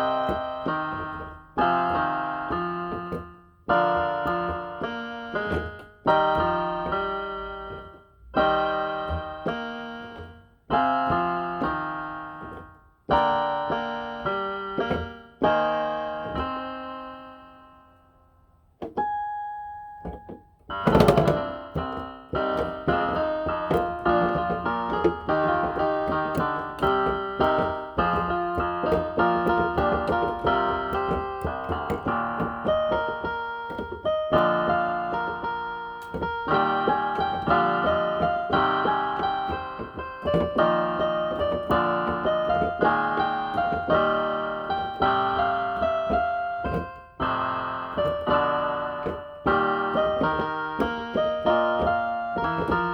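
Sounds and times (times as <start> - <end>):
electronic keyboard piano melody: 0.0 - 52.9.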